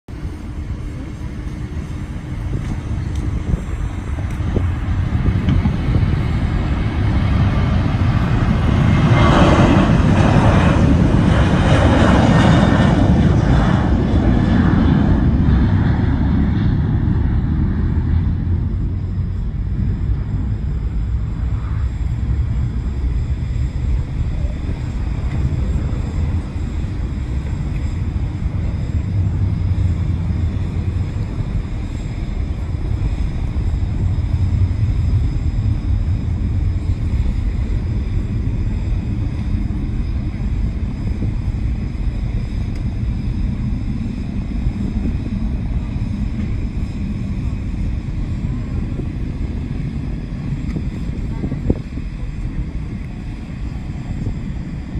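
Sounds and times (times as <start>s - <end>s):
jet airliner taking off: 0.1s - 54.9s.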